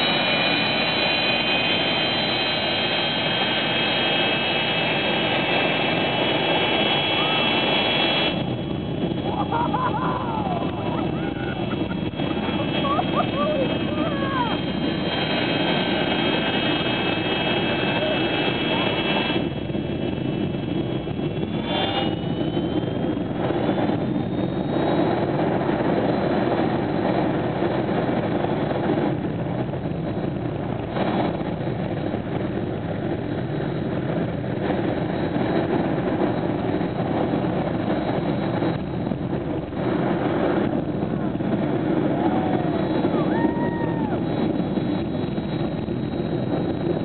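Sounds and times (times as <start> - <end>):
jet engine running: 0.0 - 47.0.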